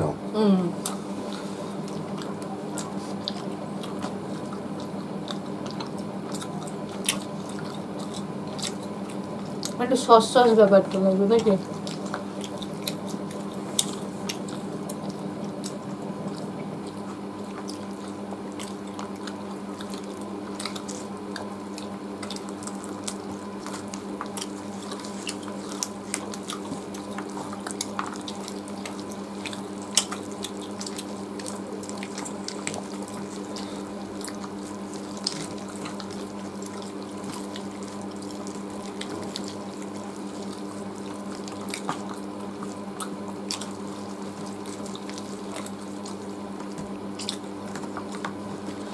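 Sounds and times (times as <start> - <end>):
steady low hum: 0.0 - 48.9
wet chewing and lip smacking: 0.8 - 9.8, 10.9 - 48.9.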